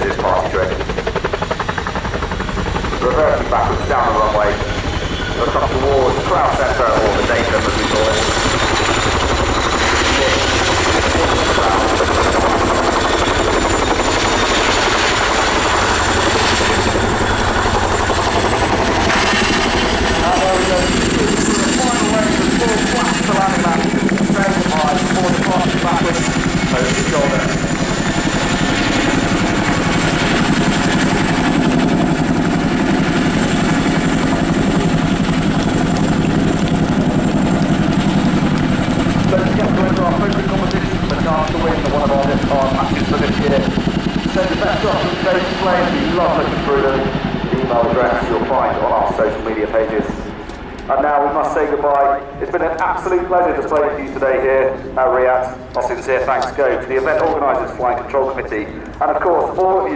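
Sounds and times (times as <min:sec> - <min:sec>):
helicopter rotors chopping: 0:00.0 - 0:59.9
turboshaft engines whining: 0:00.0 - 0:59.9.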